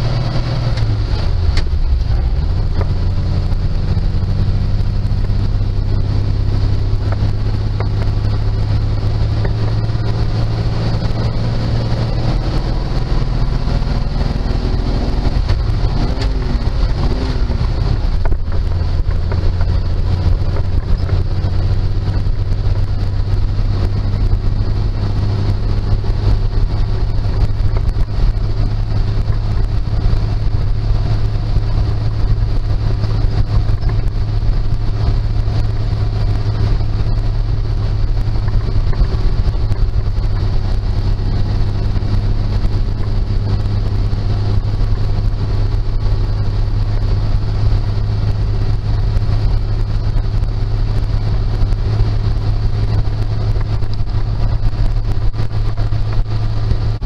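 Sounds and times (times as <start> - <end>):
truck engine humming from cab: 0.0 - 57.0.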